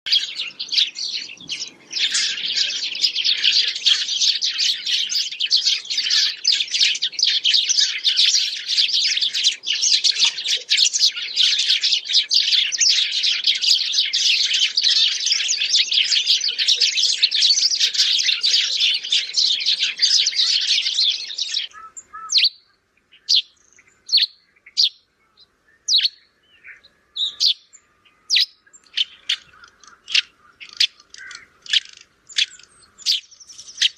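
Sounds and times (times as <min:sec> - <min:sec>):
sparrows chirping: 0:00.1 - 0:33.9.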